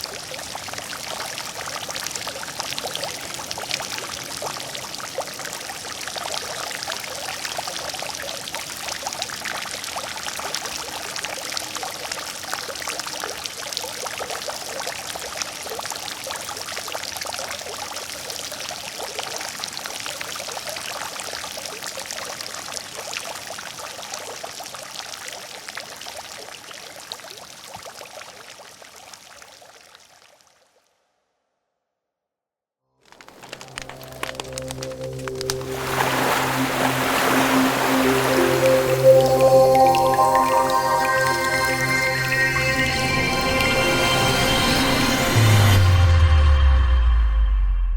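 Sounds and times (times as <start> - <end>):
water fountain splashing: 0.0 - 29.4, 33.1 - 42.4.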